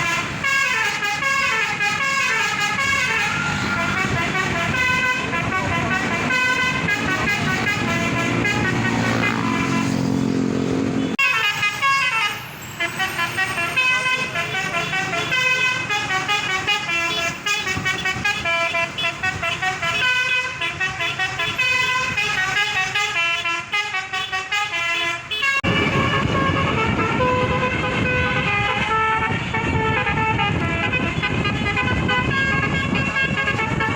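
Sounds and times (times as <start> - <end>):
bus musical horn melody: 0.0 - 33.9.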